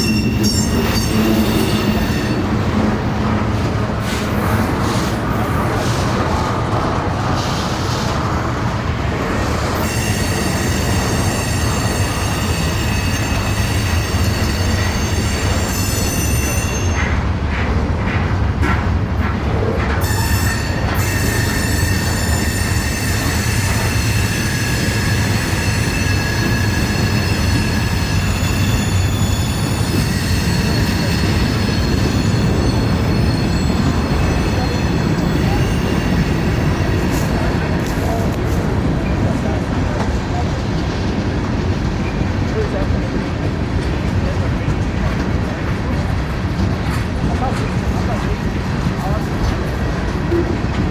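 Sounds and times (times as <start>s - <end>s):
train rumbling on rails: 0.0s - 50.9s.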